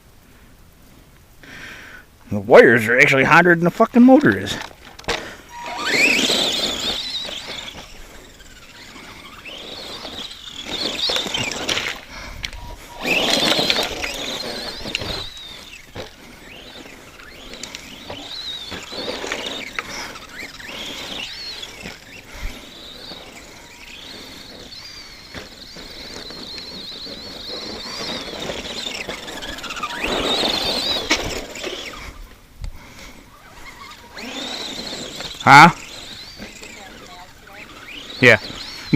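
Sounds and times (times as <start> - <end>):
toy truck motor whining: 4.1 - 38.9.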